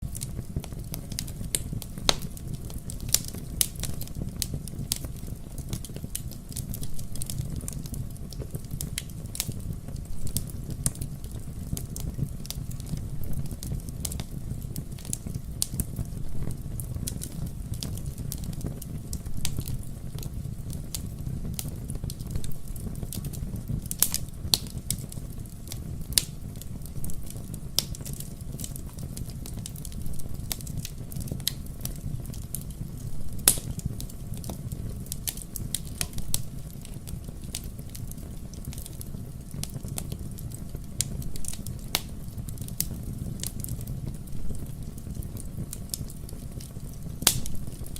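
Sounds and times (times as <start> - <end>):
burning logs crackling and popping: 0.0 - 47.9
low rumble of flames: 0.0 - 47.9.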